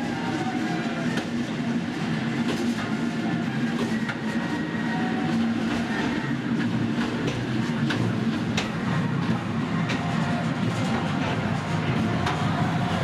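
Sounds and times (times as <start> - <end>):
wheels rumbling on rails: 0.0 - 13.0.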